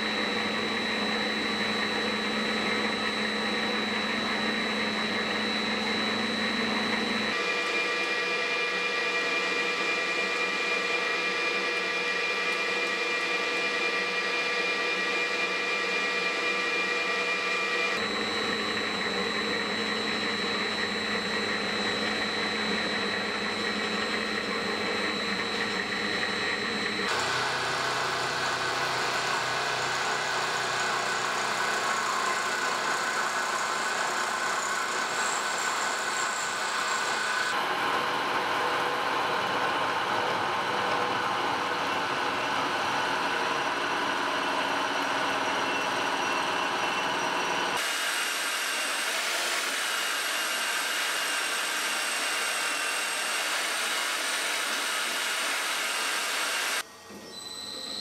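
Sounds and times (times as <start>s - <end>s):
machine with high tone: 0.0s - 58.0s
milling machine cutting metal: 0.0s - 58.0s.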